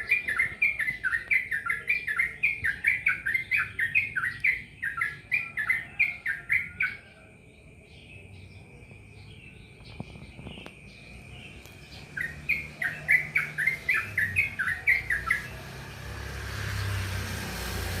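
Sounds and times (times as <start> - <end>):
bulbul singing in chirping runs: 0.0 - 17.7.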